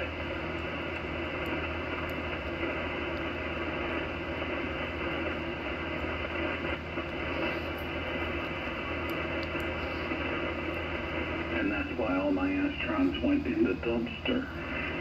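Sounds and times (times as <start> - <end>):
low hum: 0.0 - 15.0
radio static hiss: 0.0 - 15.0.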